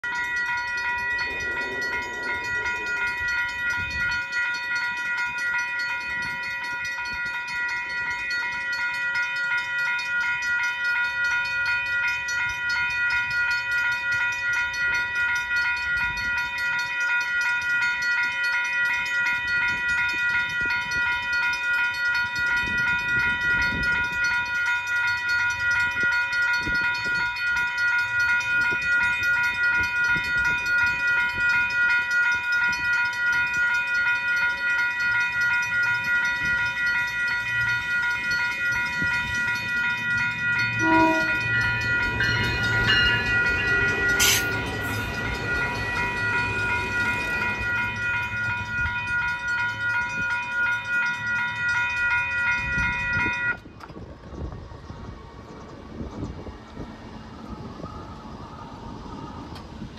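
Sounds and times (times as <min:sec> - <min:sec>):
low train rumble: 0:00.0 - 0:59.9
railroad crossing bell ringing: 0:00.0 - 0:59.9.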